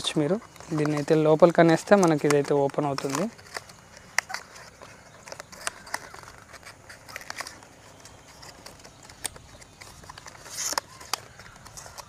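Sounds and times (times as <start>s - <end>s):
cardboard crinkling and tapping: 0.0s - 12.0s
cardboard scraping against cardboard: 0.0s - 12.0s.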